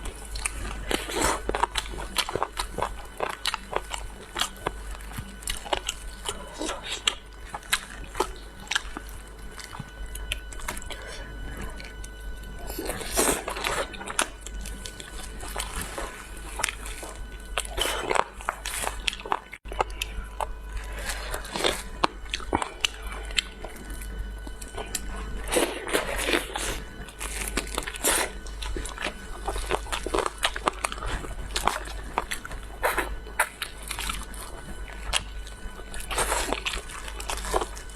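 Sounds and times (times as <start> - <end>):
person chewing crunchy food: 0.0 - 37.9.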